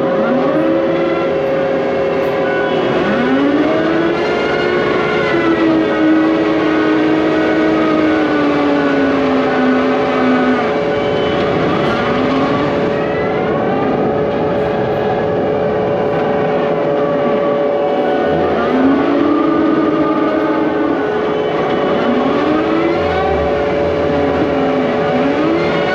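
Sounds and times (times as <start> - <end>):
excavator engine drone: 0.0 - 25.9
hydraulic whine: 0.0 - 25.9.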